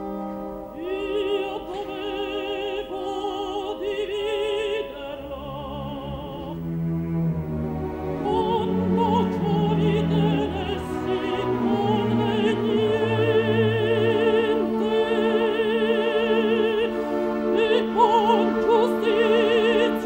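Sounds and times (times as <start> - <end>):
orchestra holding long chords: 0.0 - 20.0
woman singing opera with vibrato: 0.7 - 6.7, 8.2 - 20.0.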